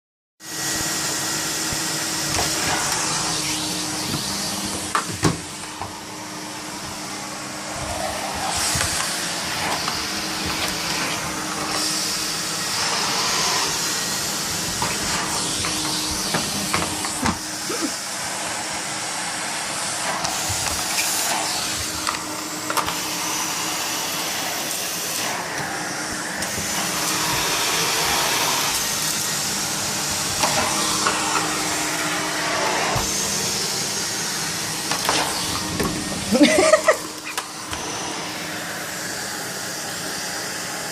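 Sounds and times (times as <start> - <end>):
vacuum cleaner running: 0.4 - 40.9.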